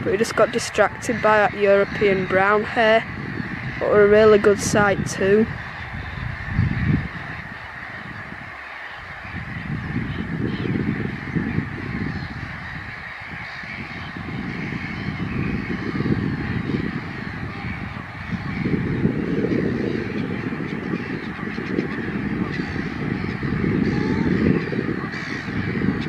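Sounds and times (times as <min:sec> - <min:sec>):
distant birds calling: 0:00.0 - 0:26.0
wind buffeting microphone: 0:00.0 - 0:26.0.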